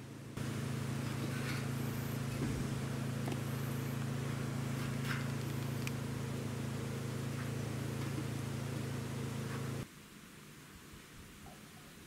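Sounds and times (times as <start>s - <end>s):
low engine hum: 0.0s - 9.9s.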